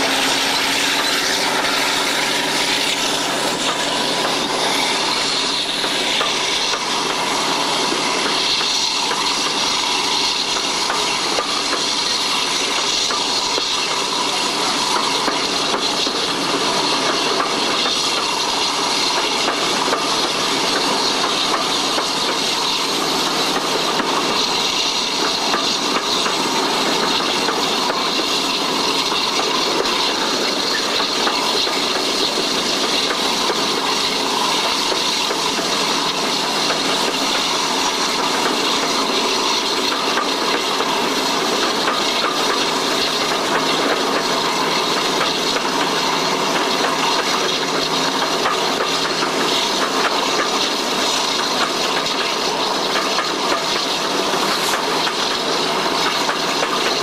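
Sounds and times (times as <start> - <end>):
train running at speed: 0.0 - 57.0.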